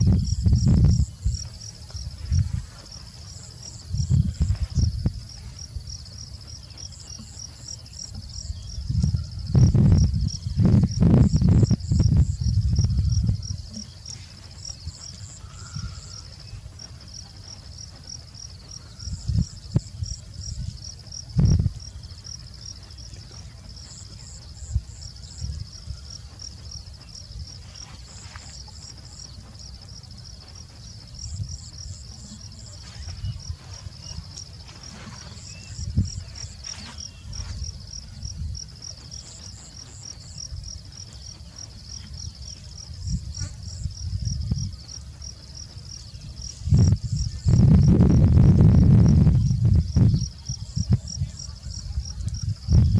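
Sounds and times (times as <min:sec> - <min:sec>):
low thumps and rumbles: 0:00.0 - 0:02.8, 0:03.7 - 0:27.8, 0:28.7 - 0:51.4
insects chirping: 0:00.0 - 0:52.9.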